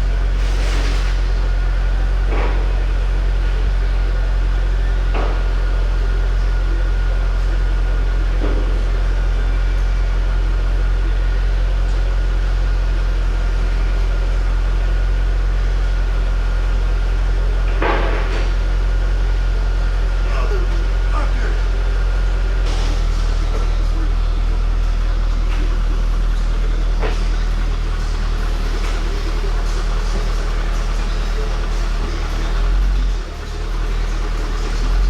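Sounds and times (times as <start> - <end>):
loud low machine hum: 0.0 - 35.0.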